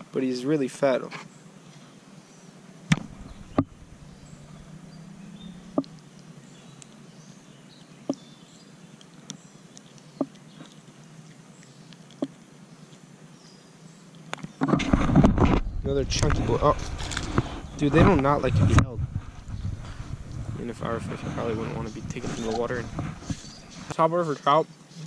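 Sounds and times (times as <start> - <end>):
faint outdoor background: 0.0 - 25.0.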